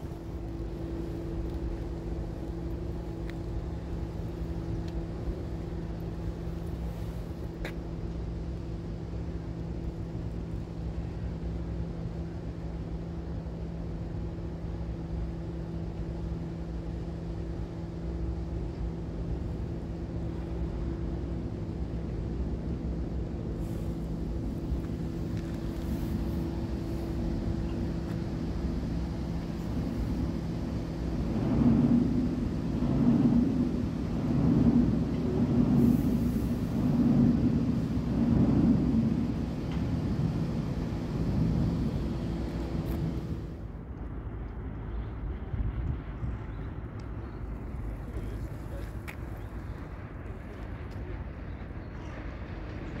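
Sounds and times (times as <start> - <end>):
ship diesel engine droning: 0.0 - 43.8.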